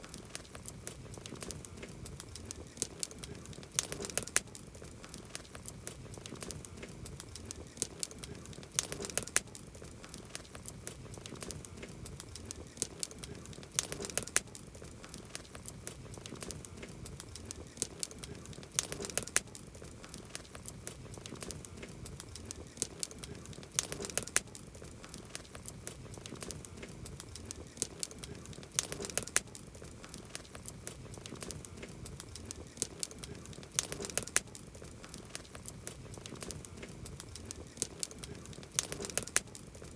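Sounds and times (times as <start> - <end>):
campfire crackling: 0.0 - 39.9
soft hiss of fire: 0.0 - 39.9.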